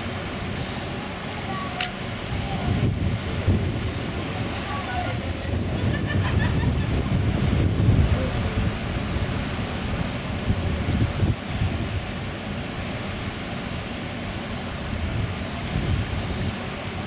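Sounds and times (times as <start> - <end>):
sea: 0.0 - 17.0
wind buffeting microphone: 0.0 - 17.0
wind rushing: 2.0 - 16.8.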